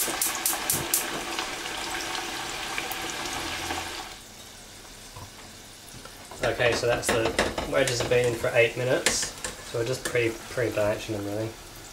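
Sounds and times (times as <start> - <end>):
potatoes sizzling in hot oil: 0.0 - 11.9.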